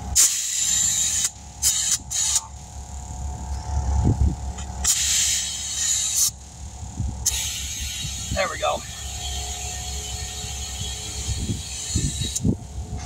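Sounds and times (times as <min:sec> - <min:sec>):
compressed air hissing: 0:00.0 - 0:03.1, 0:03.9 - 0:13.0
machinery humming: 0:00.0 - 0:13.0.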